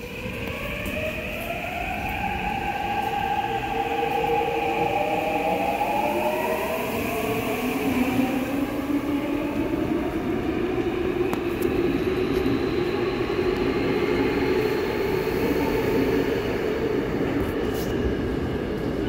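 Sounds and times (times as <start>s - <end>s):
electric train pulling away: 0.0s - 18.3s.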